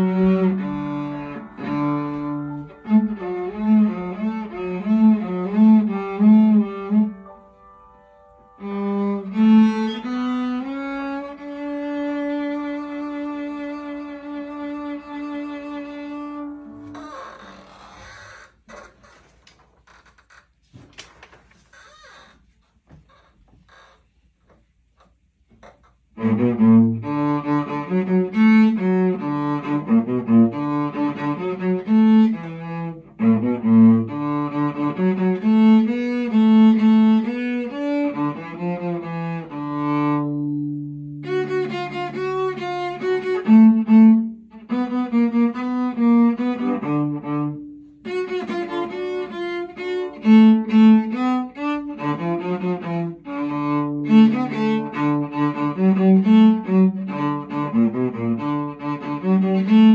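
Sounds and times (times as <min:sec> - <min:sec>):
bowed cello melody: 0:00.0 - 0:20.4, 0:23.6 - 0:59.9.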